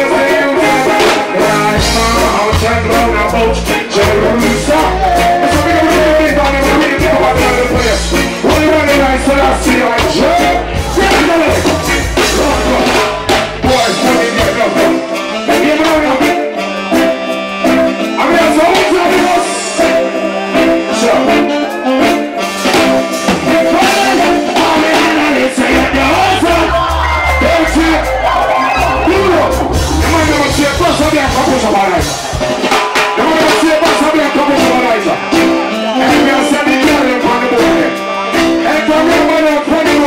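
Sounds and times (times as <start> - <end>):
man singing into a microphone: 0.0 - 16.6, 18.0 - 22.2, 23.4 - 32.1, 33.2 - 40.0
live reggae band playing: 0.0 - 40.0.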